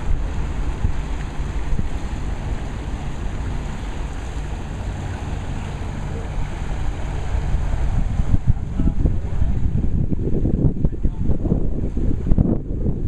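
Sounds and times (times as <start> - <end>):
water noise: 0.0 - 13.0
watercraft engine running: 0.0 - 13.0
wind noise: 0.0 - 13.0.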